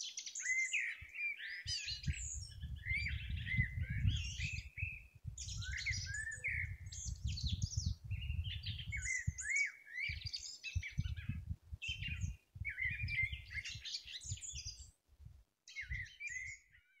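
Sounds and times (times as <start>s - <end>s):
songbirds twittering: 0.0s - 15.0s, 15.7s - 17.0s.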